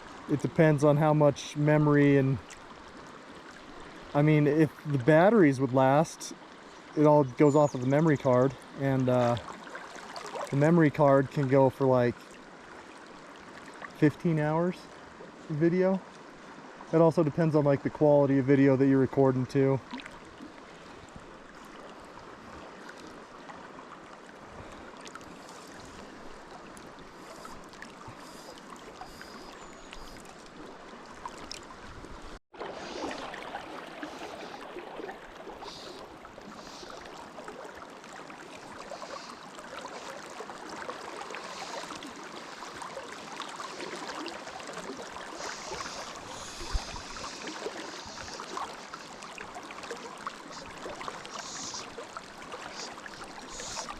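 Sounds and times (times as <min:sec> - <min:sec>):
flowing river water: 0:00.0 - 0:53.9.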